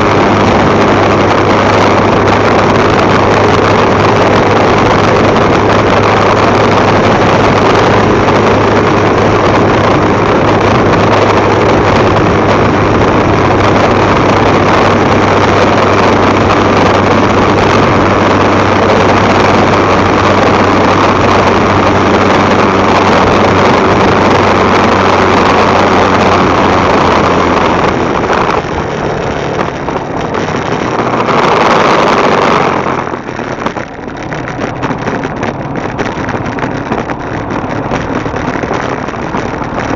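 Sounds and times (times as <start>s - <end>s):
motorbike engine running: 0.0s - 39.9s
wind rush on microphone: 0.0s - 39.9s.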